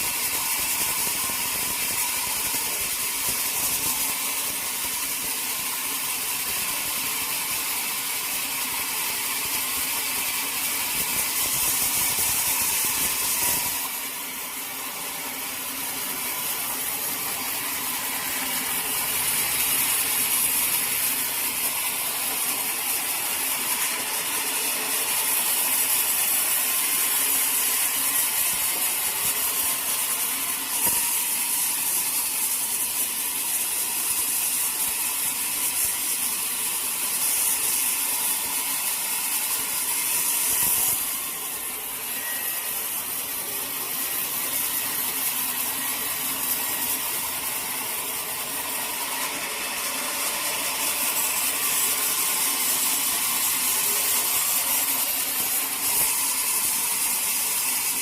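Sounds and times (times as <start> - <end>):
sawmill machinery rattling: 0.0 - 58.0.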